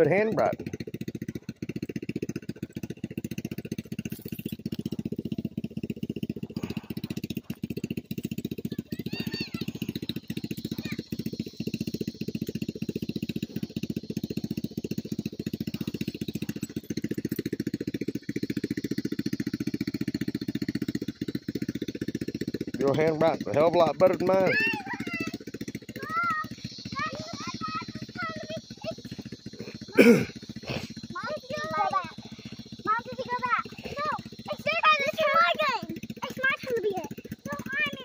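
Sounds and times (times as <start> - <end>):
atv engine idling: 0.0 - 38.0.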